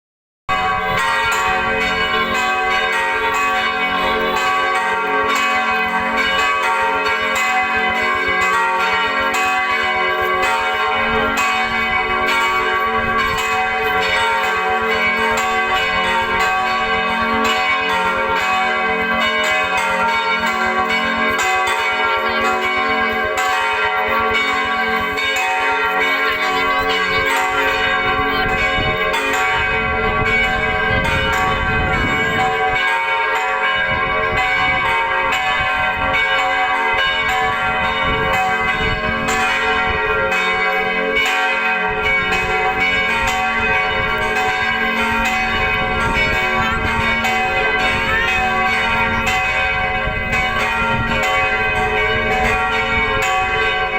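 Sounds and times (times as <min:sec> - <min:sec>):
church bells ringing: 0:00.5 - 0:53.9.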